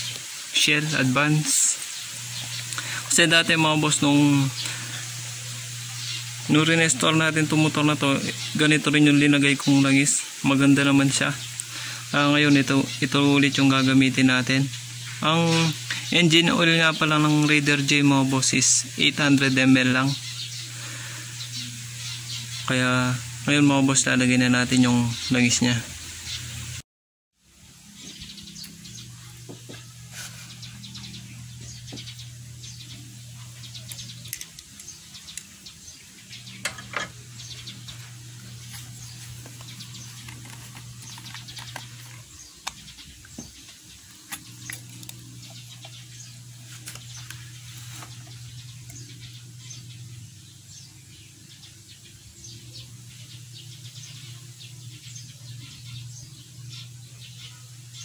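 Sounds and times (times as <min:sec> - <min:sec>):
birds chirping: 0:00.0 - 0:26.8, 0:27.6 - 0:58.0
low steady hum: 0:00.0 - 0:26.8, 0:27.5 - 0:58.0.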